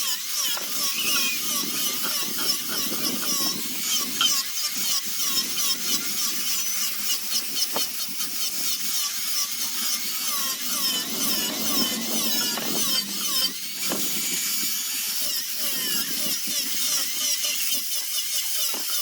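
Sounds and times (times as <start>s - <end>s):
rotary tool grinding wood: 0.0s - 19.0s.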